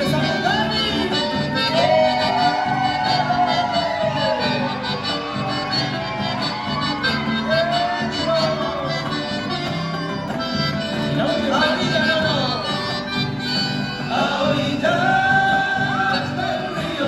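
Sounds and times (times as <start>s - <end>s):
accordion melody: 0.0s - 17.0s.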